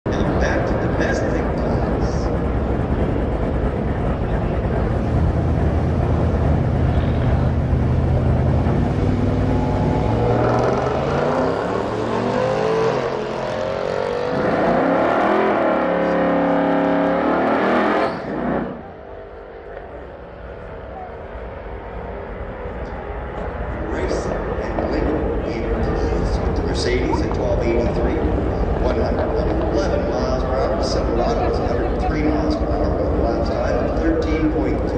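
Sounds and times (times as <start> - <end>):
car engine accelerating: 0.2 - 34.9.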